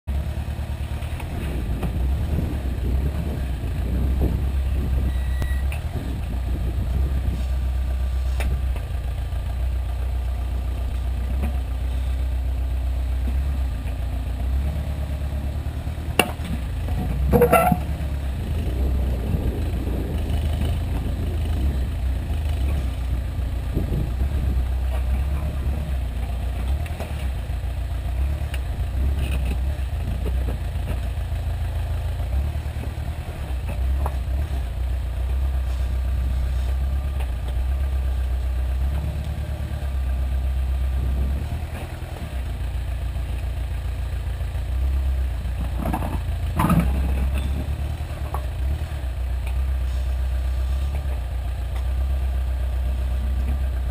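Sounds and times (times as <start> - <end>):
backhoe engine running: 0.1 - 53.9.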